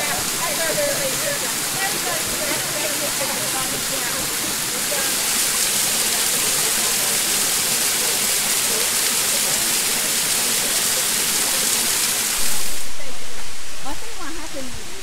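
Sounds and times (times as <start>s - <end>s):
waterfall splashing onto rocks: 0.0s - 13.0s.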